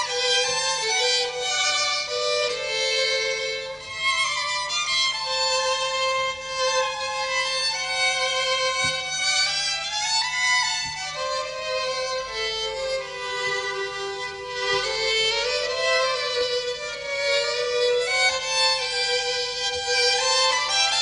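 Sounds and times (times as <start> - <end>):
two violins playing: 0.0 - 21.0.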